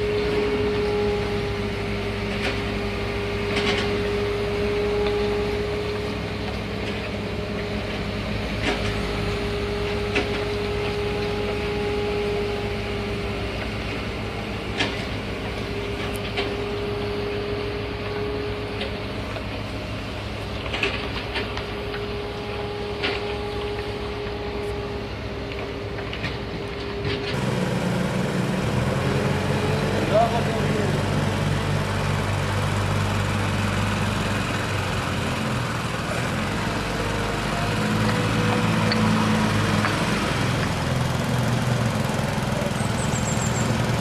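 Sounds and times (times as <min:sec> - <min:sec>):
heavy machine engine humming: 0:00.0 - 0:44.0.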